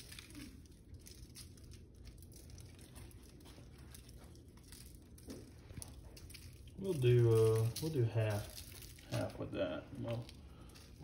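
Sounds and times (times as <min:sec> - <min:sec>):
seasoning shaker ticking and rustling: 0:00.0 - 0:11.0.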